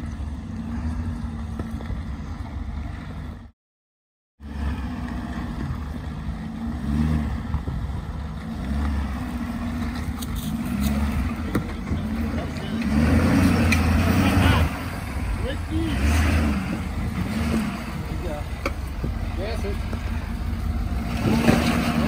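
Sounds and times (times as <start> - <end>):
diesel engine running at low revs: 0.0 - 3.5, 4.4 - 22.0.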